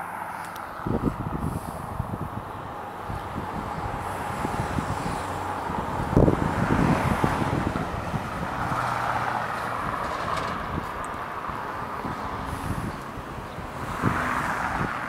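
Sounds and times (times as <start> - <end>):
cars driving by: 0.0 - 15.0
wind buffeting microphone: 0.6 - 15.0.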